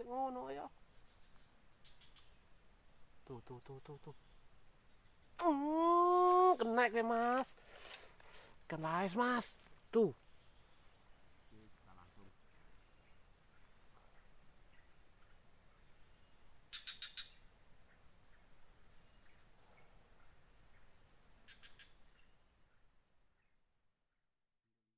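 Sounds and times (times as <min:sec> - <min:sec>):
high-pitched insect drone: 0:00.0 - 0:23.8.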